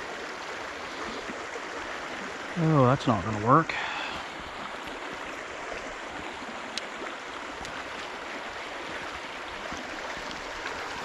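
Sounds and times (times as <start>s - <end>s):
flowing stream water: 0.0s - 11.0s.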